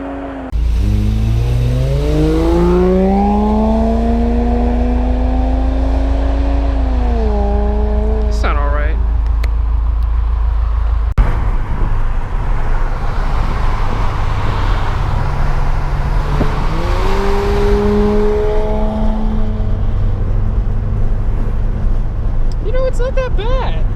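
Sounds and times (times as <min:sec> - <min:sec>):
car exhaust droning: 0:00.0 - 0:22.6.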